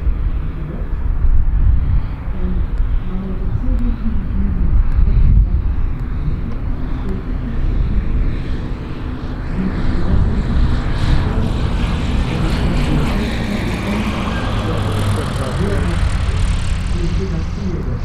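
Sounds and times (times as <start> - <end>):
propeller aircraft engine: 0.0 - 18.0.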